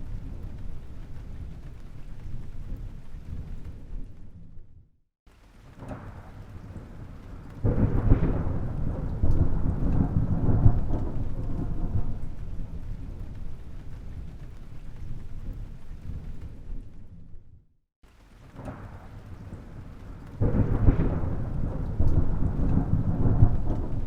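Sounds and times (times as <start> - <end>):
thunder rumbling: 0.0 - 4.9, 5.5 - 17.6, 18.2 - 24.0.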